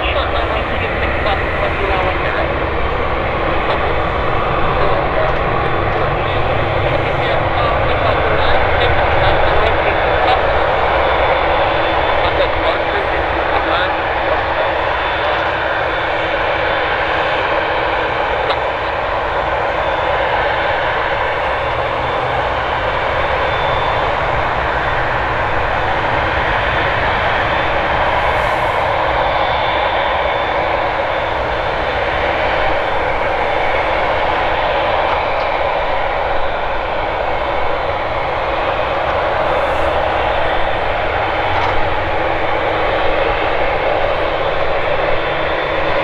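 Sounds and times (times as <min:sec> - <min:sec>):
jet engines taxiing: 0:00.0 - 0:46.0.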